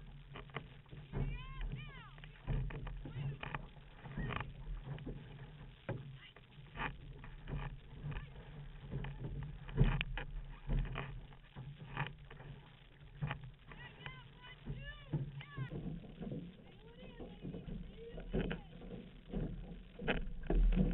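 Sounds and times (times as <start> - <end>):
steady low rumble: 0.0 - 20.9
water splashing against canoe hull: 0.0 - 20.9.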